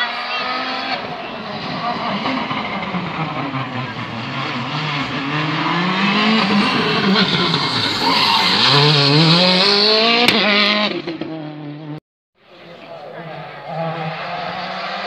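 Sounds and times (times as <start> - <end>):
tyres skidding on tarmac: 0.0 - 10.6, 12.6 - 15.0
rally car engine revving: 0.0 - 12.0, 12.6 - 15.0.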